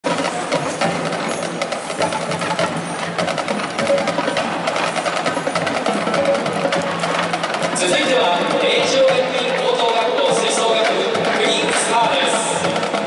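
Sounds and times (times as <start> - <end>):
marching drumline: 0.0 - 13.0
snare drum strokes: 0.1 - 13.0.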